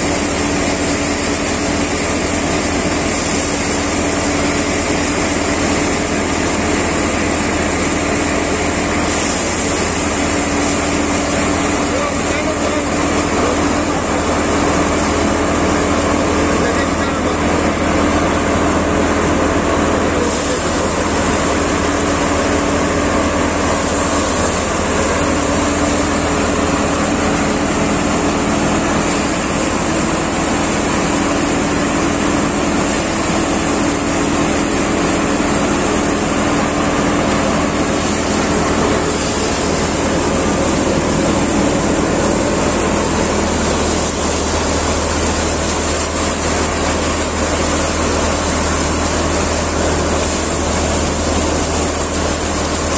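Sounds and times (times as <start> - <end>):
straw and grain rushing through: 0.0 - 52.9
thresher and tractor engine drone: 0.0 - 52.9.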